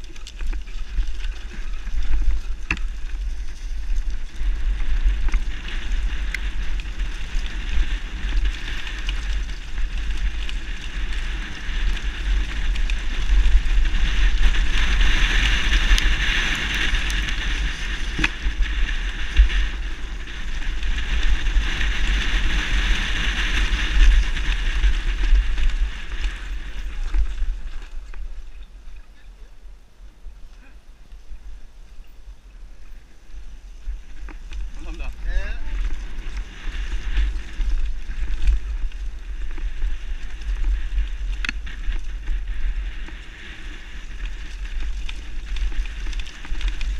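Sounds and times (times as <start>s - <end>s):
bike rattling over ground: 0.0s - 29.4s, 31.1s - 46.9s
bike tyre noise: 0.0s - 46.9s
wind buffeting microphone: 0.0s - 46.9s.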